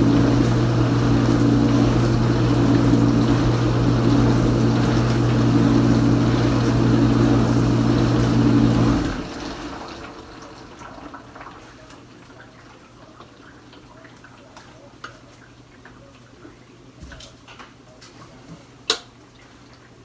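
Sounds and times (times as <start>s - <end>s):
dishwasher pump humming: 0.0s - 16.0s.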